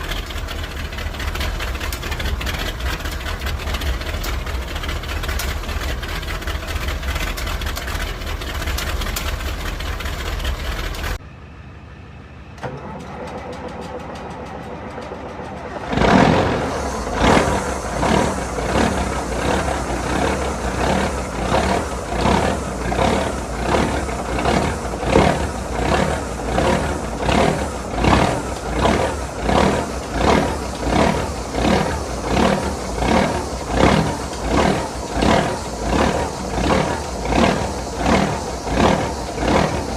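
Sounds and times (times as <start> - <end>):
diesel engine starting: 0.0 - 39.9
diesel truck engine running: 0.0 - 39.9.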